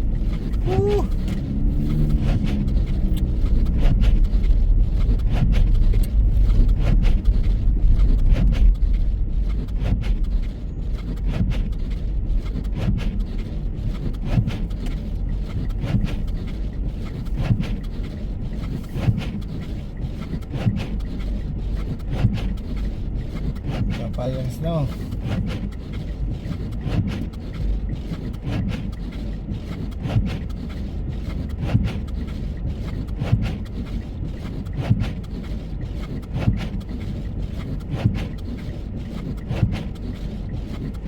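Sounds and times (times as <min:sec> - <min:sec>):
car engine and tyres rumbling: 0:00.0 - 0:41.0.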